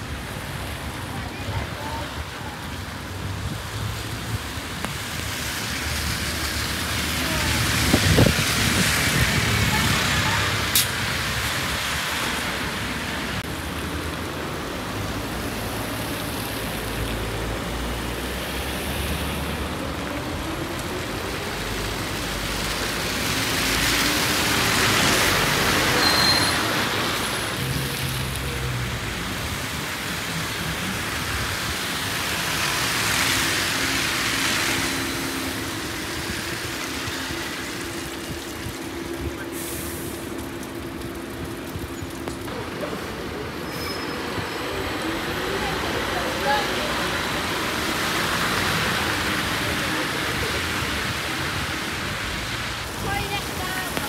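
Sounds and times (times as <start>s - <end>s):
tyre hiss on wet road: 0.0s - 54.0s.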